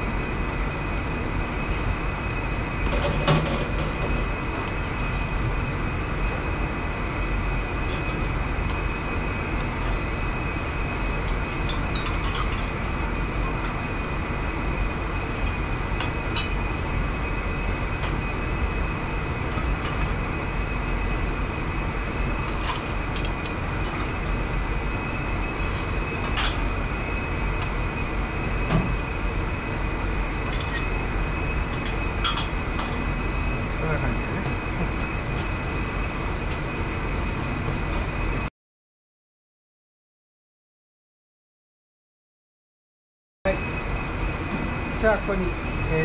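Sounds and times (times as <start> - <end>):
high whine: 0.0 - 38.5, 43.5 - 46.0
kitchen fans running: 0.0 - 38.5, 43.5 - 46.0.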